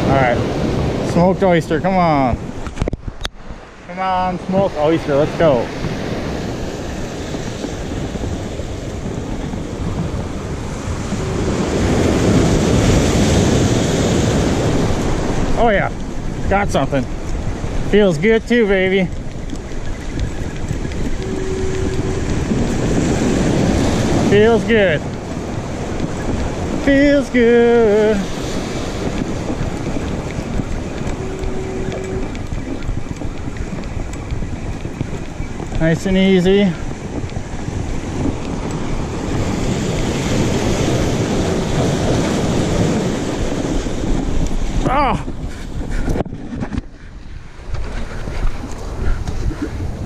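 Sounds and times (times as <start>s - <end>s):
surf breaking against rocks: 0.0s - 50.0s
wind buffeting microphone: 0.0s - 50.0s.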